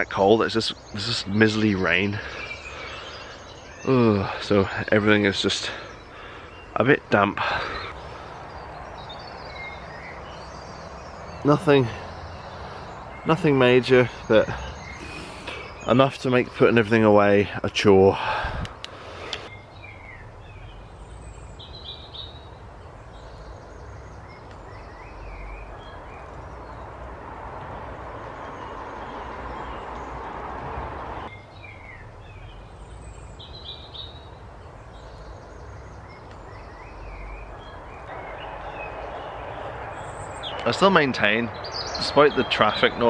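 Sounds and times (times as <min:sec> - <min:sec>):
birds chirping: 0:00.0 - 0:43.0
steady traffic noise: 0:00.0 - 0:43.0.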